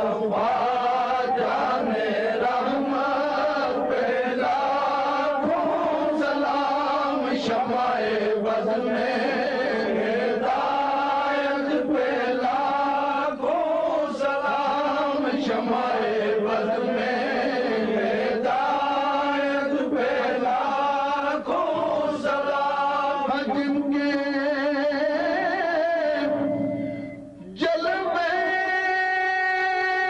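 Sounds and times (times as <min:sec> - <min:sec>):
voices singing devotional chant: 0:00.0 - 0:30.0.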